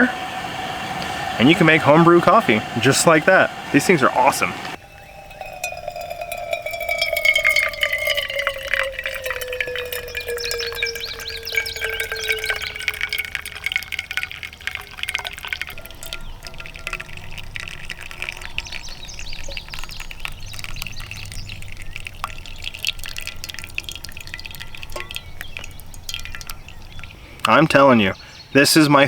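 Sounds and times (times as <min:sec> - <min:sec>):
water pouring: 0:00.0 - 0:28.2
water trickling into a cup: 0:00.0 - 0:28.5.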